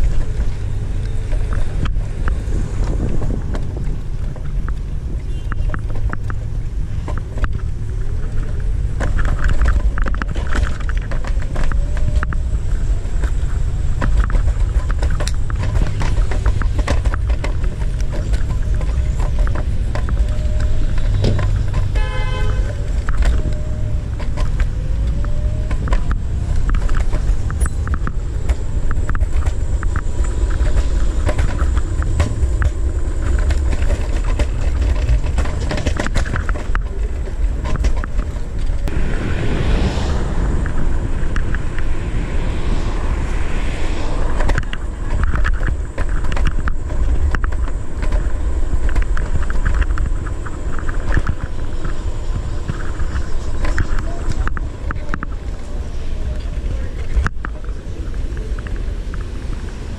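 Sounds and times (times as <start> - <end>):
scooter clicking and rattling: 0.0 - 38.9, 44.3 - 59.9
wind buffeting microphone: 0.0 - 59.9.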